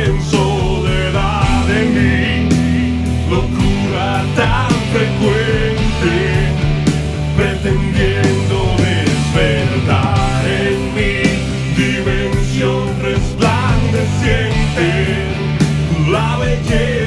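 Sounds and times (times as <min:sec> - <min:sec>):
bass and guitars: 0:00.0 - 0:17.0
drums steady beat: 0:00.0 - 0:17.0
lead vocal singing: 0:00.0 - 0:17.0.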